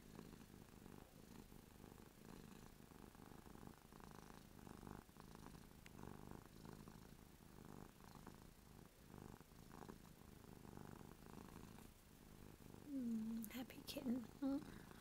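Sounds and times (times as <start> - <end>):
cat purring faintly: 0.0 - 15.0.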